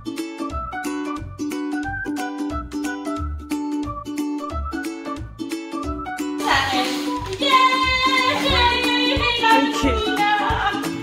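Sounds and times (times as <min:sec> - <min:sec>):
plucked-string tune with bass beat: 0:00.0 - 0:06.6, 0:08.0 - 0:11.0.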